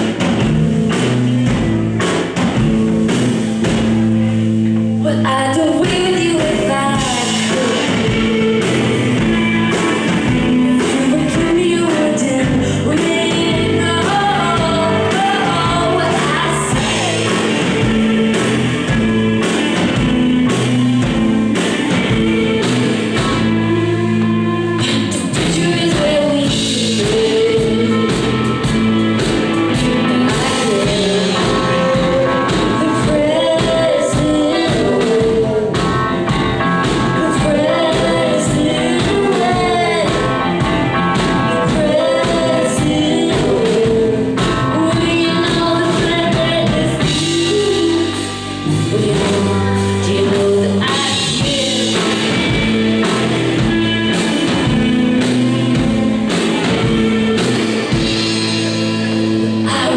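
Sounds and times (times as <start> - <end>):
live band playing: 0.0 - 59.9
person singing: 5.0 - 59.9.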